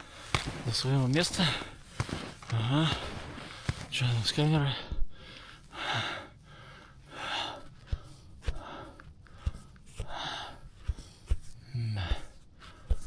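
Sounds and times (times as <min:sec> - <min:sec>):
man breathing heavily: 0:00.0 - 0:13.0.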